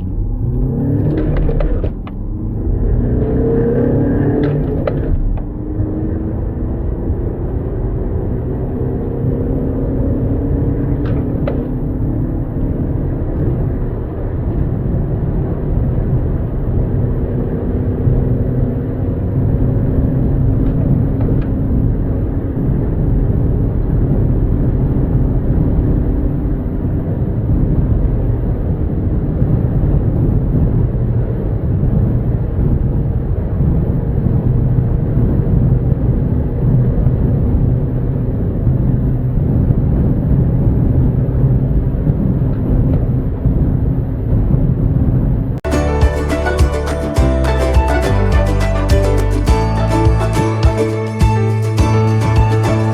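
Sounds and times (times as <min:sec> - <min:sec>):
car engine drone: 0:00.0 - 0:52.9
road and wind noise: 0:00.0 - 0:52.9.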